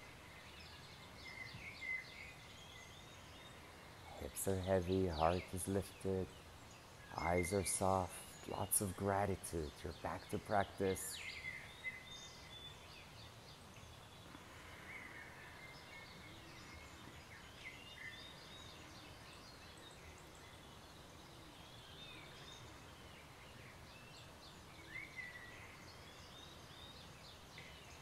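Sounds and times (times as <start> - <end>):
background hiss: 0.0 - 28.0
faint birdsong: 0.0 - 28.0.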